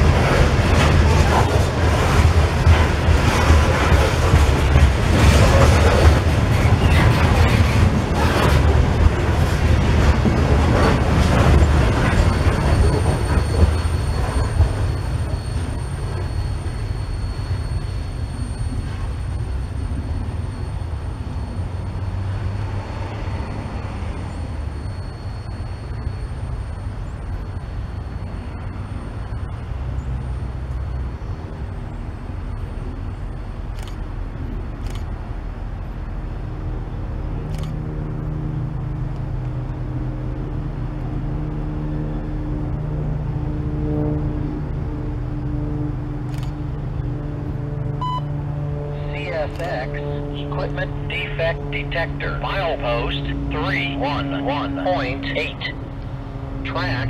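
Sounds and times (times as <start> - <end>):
freight train rumbling past: 0.0 - 57.0
steady low hum: 0.0 - 57.0.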